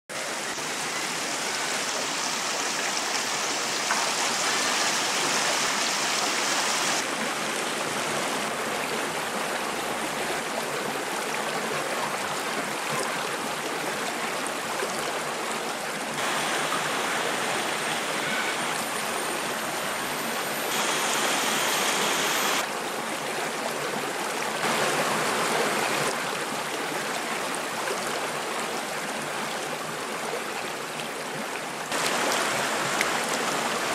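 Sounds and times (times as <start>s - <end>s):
stream splashing over stones: 0.2s - 30.2s, 31.9s - 33.9s.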